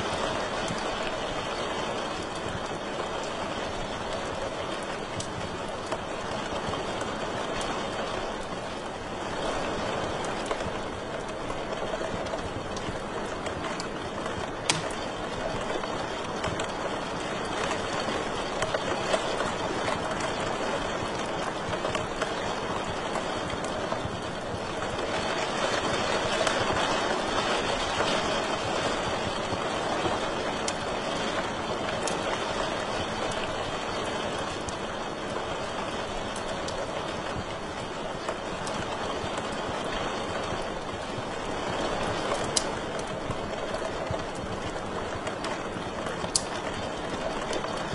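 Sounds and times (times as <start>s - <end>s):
fire crackling and popping: 0.0s - 47.9s
fire flames hissing: 0.0s - 47.9s.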